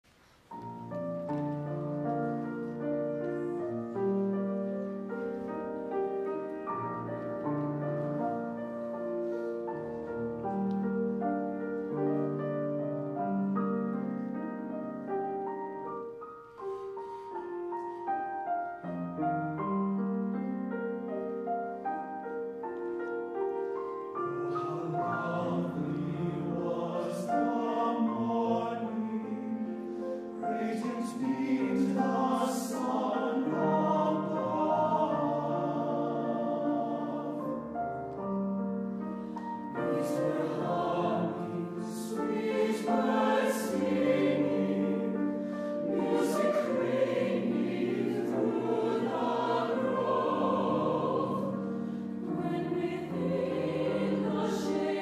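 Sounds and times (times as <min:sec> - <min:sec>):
slow piano chords: 0:00.1 - 0:55.0.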